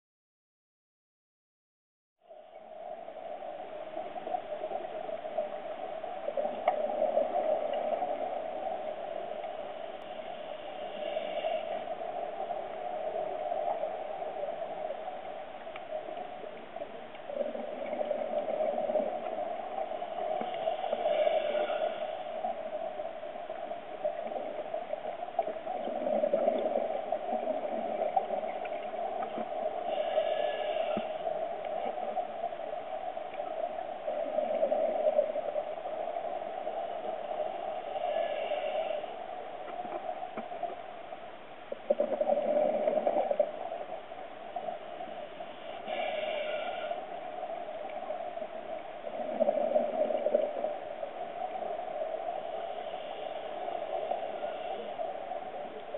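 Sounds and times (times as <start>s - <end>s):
muffled water rush: 2.2s - 55.9s.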